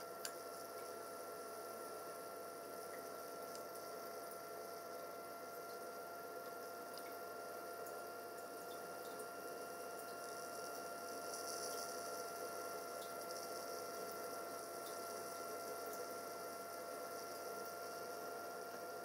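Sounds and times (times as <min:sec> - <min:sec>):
electrical hum: 0:00.0 - 0:19.0
thin constant whine: 0:00.0 - 0:19.0.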